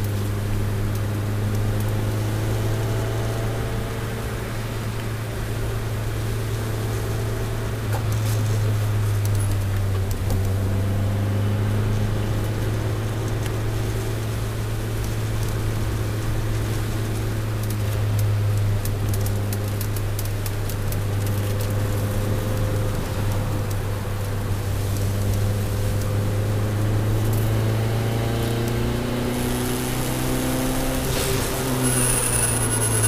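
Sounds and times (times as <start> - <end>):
car engine droning: 0.0 - 33.0
road noise: 0.0 - 33.0.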